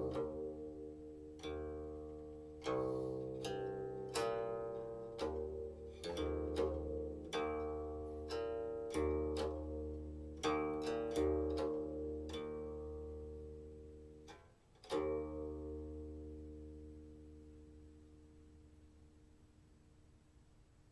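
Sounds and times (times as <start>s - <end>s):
guqin plucked notes: 0.0s - 19.1s.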